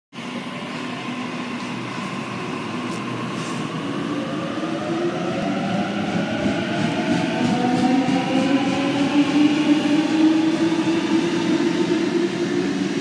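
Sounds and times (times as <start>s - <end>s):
electric train running rumble: 0.2s - 13.0s.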